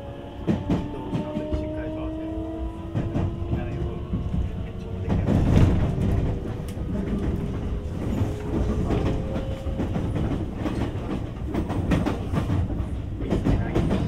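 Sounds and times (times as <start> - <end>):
low rumble of train wheels: 0.0 - 14.0.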